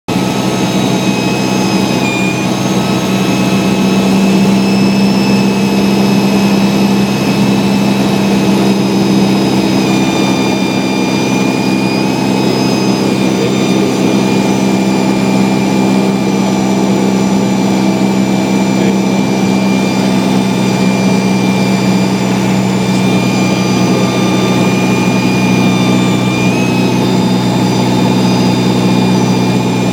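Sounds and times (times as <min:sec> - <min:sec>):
light aircraft engine drone: 0:00.1 - 0:29.9.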